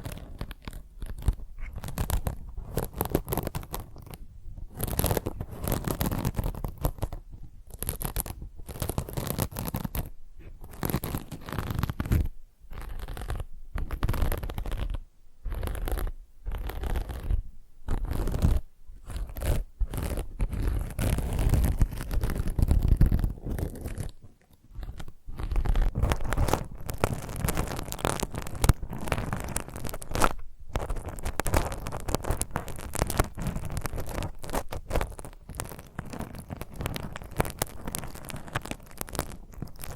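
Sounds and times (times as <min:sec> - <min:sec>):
fingernails scratching scouring pad: 0:00.0 - 0:39.9.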